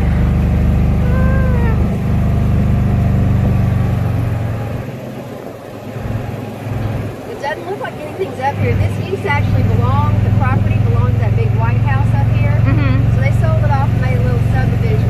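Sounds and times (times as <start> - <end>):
golf cart engine running: 0.0 - 15.0.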